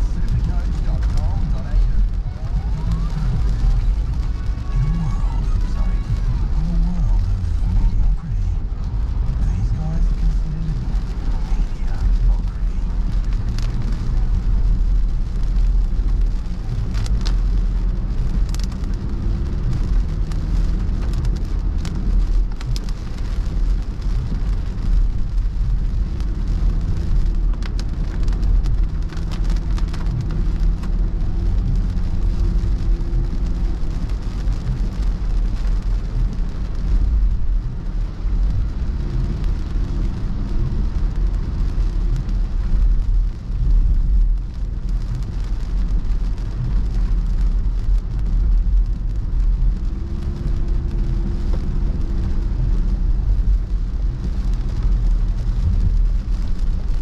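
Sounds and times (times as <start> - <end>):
rain spattering on windscreen: 0.0 - 57.0
road rumble and tyre hiss: 0.0 - 57.0.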